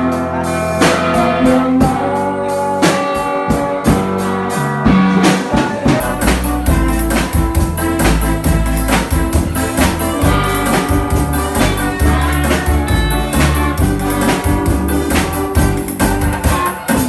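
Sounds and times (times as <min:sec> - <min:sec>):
drum kit playing a steady beat: 0:00.0 - 0:17.0
electric bass: 0:00.0 - 0:17.0
electric guitar: 0:00.0 - 0:17.0.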